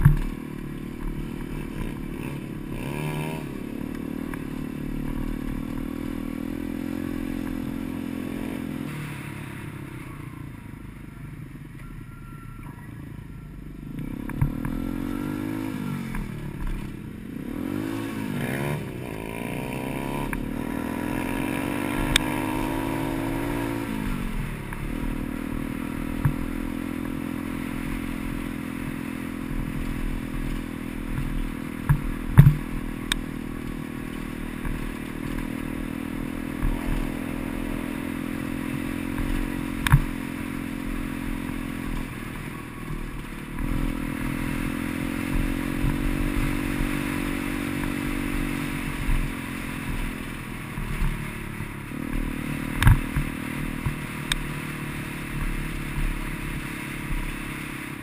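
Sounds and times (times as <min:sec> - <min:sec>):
knocks and rattles from bike: 0:00.0 - 0:09.0, 0:13.9 - 0:17.9, 0:18.6 - 0:58.0
motorbike engine running: 0:00.0 - 0:58.0.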